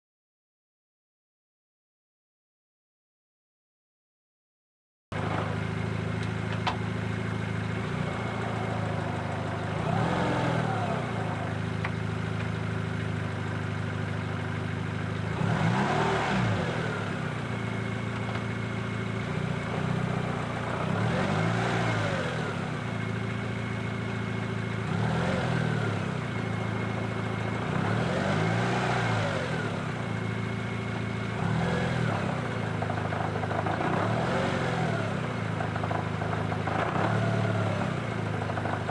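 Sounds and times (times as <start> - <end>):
car engine drone: 5.2 - 38.9.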